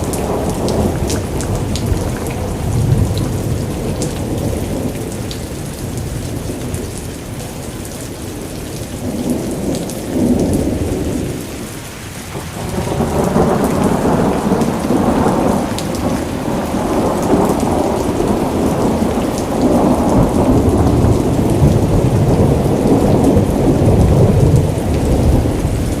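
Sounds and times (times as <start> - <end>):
heavy rain pouring: 0.0 - 26.0
thunder rumbling: 0.0 - 26.0.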